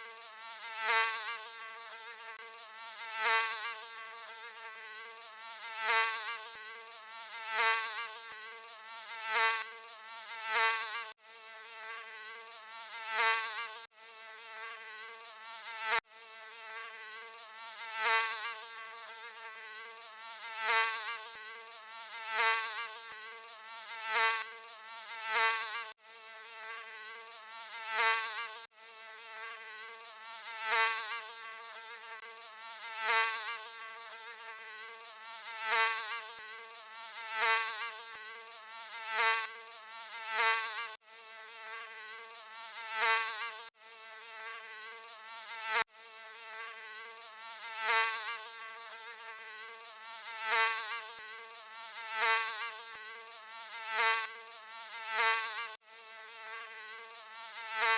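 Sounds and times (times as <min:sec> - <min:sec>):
mosquito buzzing: 0:00.0 - 0:57.9.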